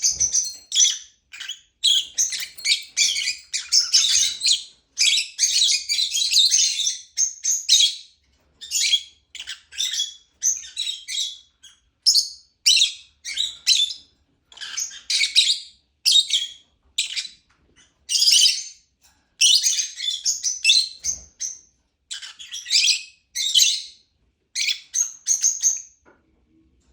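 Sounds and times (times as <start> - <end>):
lovebird chirping: 0.0 - 17.4, 18.1 - 18.8, 19.4 - 24.0, 24.6 - 25.9.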